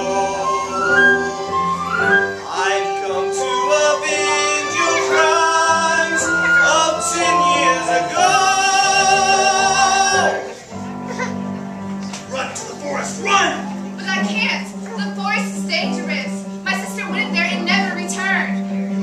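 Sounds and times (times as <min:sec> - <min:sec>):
instrumental accompaniment: 0:00.0 - 0:19.0
musical theatre singing: 0:00.0 - 0:19.0.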